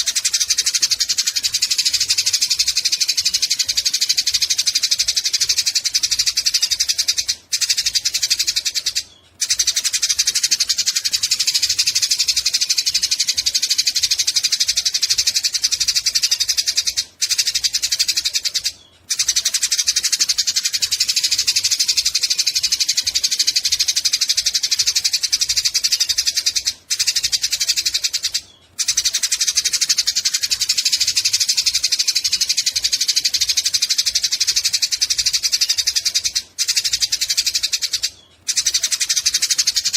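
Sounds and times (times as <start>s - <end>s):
sparrows chattering harshly: 0.0s - 39.9s.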